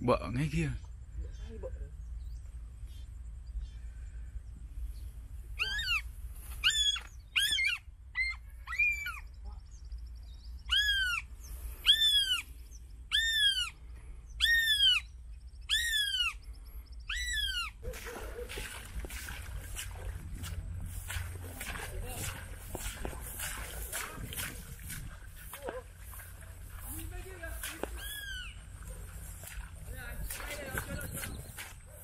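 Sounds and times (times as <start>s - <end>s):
bird calling: 5.6s - 32.0s.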